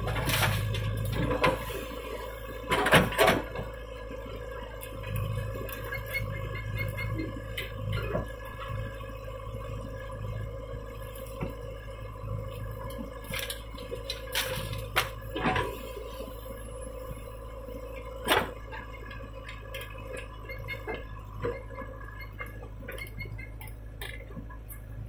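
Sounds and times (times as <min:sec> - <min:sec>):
backhoe diesel engine running: 0:00.0 - 0:25.0.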